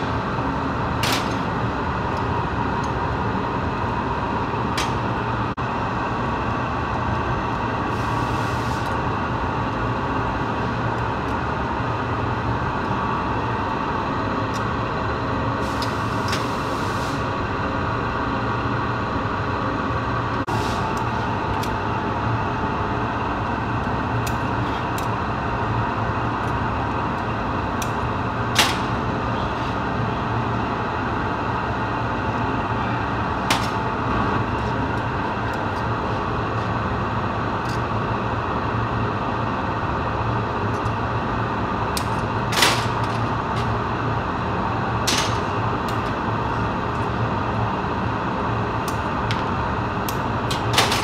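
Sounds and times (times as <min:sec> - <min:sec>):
furnace and burners rushing hum: 0:00.0 - 0:51.0.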